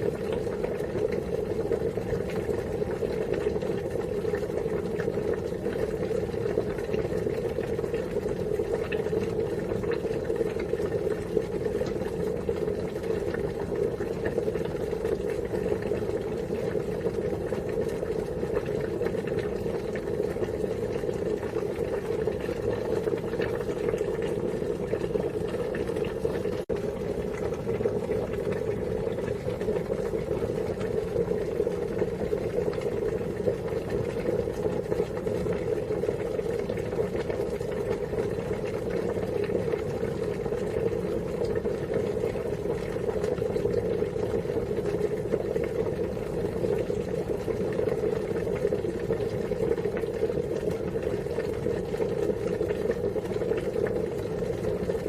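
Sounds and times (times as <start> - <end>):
water boiling: 0.0 - 55.0.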